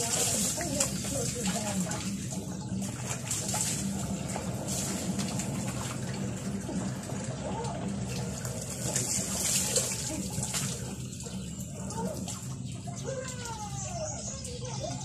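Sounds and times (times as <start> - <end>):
water splashing on ground: 0.0 - 13.5
water pouring and splashing: 0.0 - 15.0.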